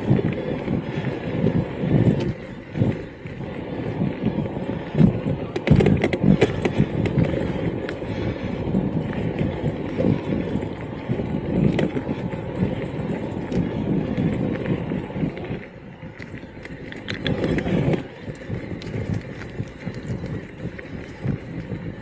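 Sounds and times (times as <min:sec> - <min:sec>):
bike rattling and knocking: 0:00.0 - 0:22.0
tyres rumbling over rough ground: 0:00.0 - 0:22.0.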